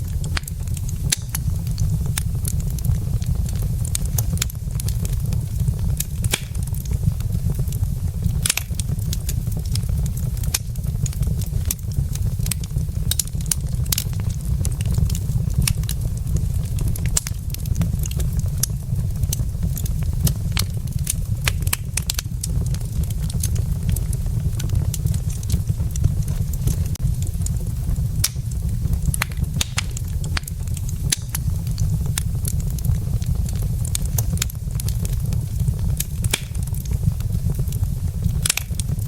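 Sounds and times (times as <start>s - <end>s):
fire crackling: 0.0s - 39.0s
low rumble: 0.0s - 39.0s
sharp pops of fire: 0.0s - 39.0s.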